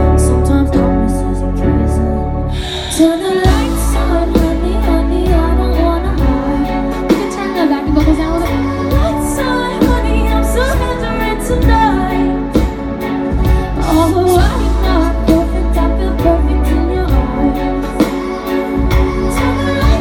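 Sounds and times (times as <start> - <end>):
bass: 0.0 - 20.0
drums: 0.0 - 20.0
woman singing: 0.0 - 20.0.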